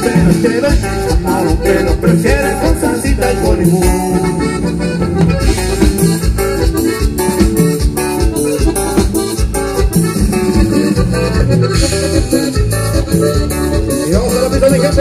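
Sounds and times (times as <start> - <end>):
keyboard melody: 0.0 - 15.0
latin dance band music: 0.0 - 15.0.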